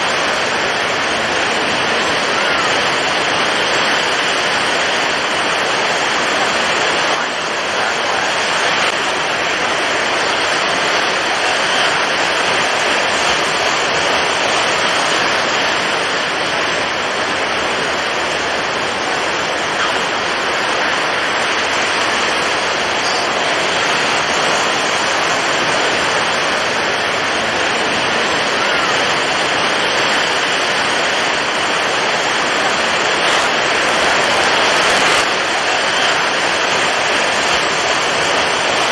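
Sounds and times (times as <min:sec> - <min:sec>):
heavy waves: 0:00.0 - 0:38.9
strong wind: 0:00.0 - 0:38.9.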